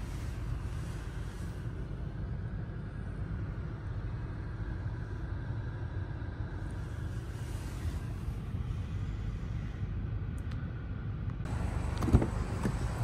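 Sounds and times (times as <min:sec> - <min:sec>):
car cabin idling rumble: 0:00.0 - 0:13.0.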